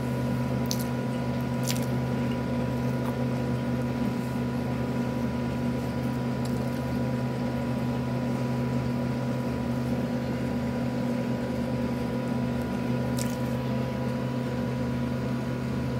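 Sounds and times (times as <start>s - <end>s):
appliance electrical hum: 0.0s - 15.9s.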